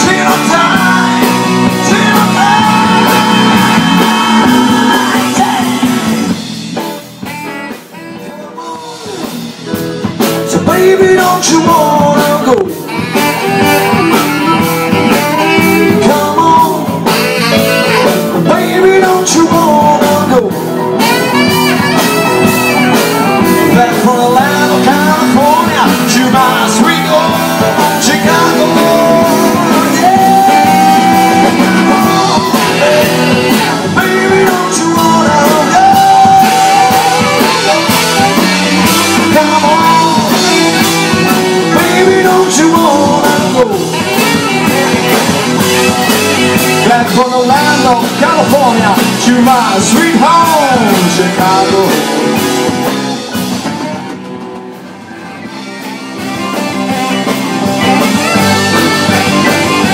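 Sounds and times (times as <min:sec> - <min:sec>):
electric guitars: 0:00.0 - 0:59.9
live blues band playing: 0:00.0 - 0:59.9.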